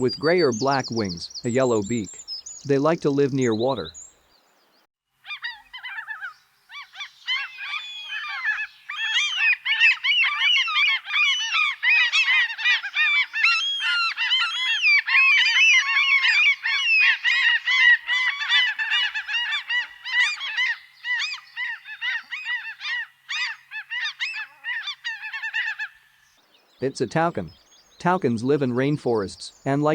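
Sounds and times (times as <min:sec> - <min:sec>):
gulls calling: 0:00.0 - 0:04.1, 0:05.3 - 0:29.9.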